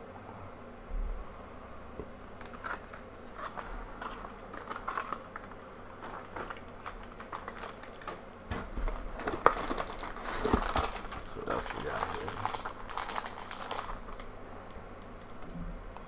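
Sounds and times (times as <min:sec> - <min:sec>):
foil pack crinkling: 0:02.3 - 0:15.5.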